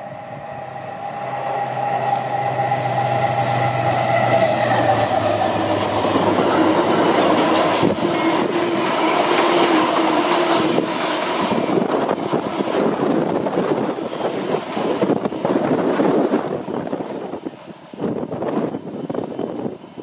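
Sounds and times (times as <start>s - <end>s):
diesel locomotive engine passing: 0.0s - 20.0s.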